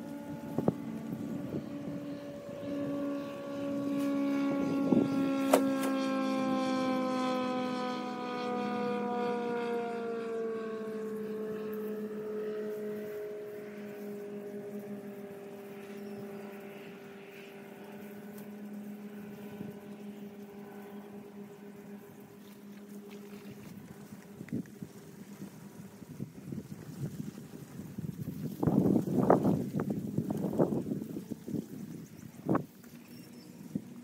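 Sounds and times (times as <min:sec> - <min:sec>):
distant droning tone: 0:00.0 - 0:27.7, 0:30.5 - 0:34.0.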